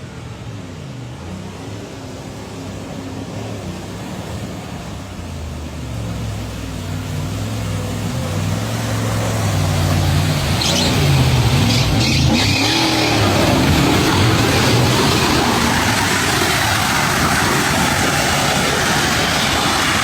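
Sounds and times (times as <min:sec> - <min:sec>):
off-road engine revving: 0:03.3 - 0:20.0.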